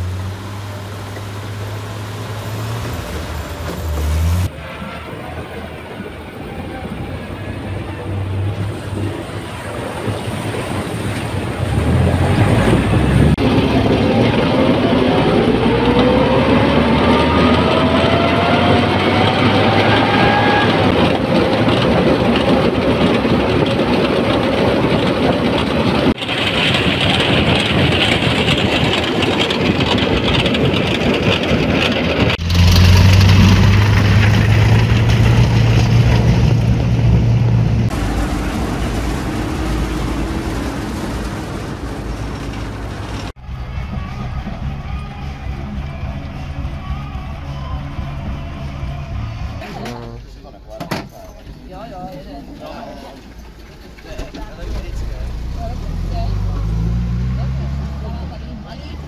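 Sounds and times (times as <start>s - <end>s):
half-track engine low drone: 0.0s - 50.6s, 52.2s - 59.0s
jeeps driving by: 0.0s - 59.0s.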